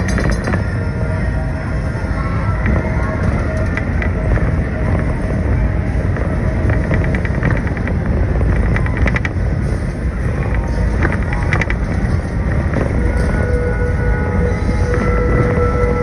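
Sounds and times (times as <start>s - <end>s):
ride train rumbling on steel track: 0.0s - 16.0s
rapid clicking: 2.5s - 16.0s.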